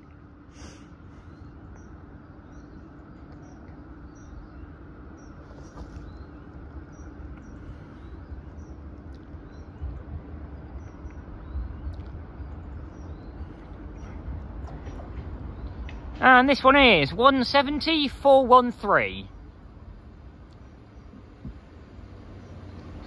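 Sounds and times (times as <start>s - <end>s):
diesel train rumble: 0.0s - 23.0s.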